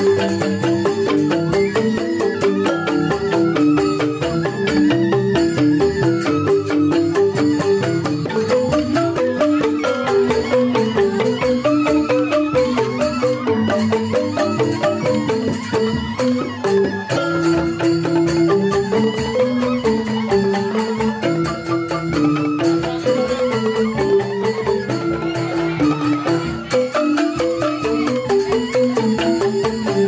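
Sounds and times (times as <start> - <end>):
bamboo flute melody: 0.0 - 30.0
bamboo xylophones playing: 0.0 - 30.0.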